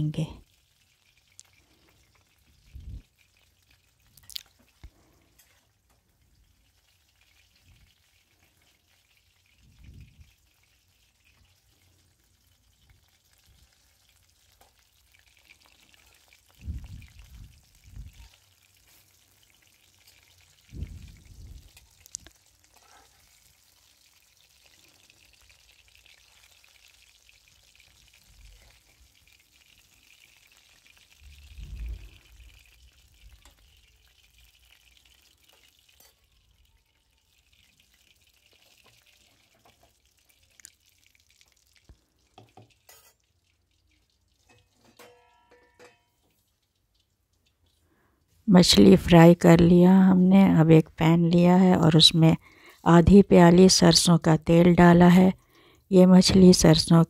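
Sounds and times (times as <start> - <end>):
fish sizzling in oil: 0.0 - 53.9.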